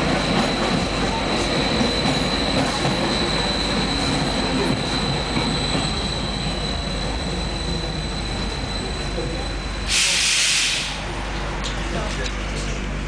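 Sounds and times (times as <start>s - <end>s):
train rumbling and rattling: 0.0s - 13.0s.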